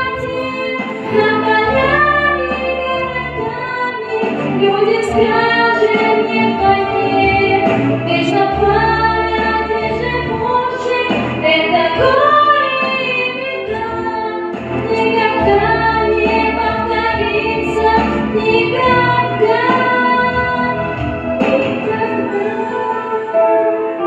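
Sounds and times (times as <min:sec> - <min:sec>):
instrumental backing: 0:00.0 - 0:24.0.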